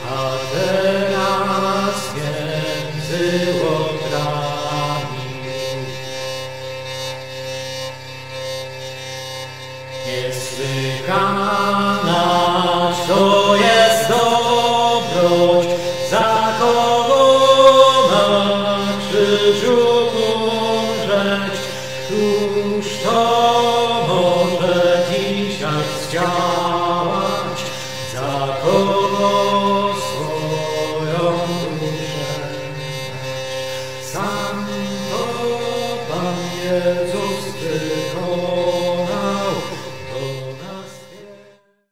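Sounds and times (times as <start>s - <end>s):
person singing liturgical chant: 0.0s - 6.2s, 10.0s - 41.7s
steady drone: 0.0s - 41.4s.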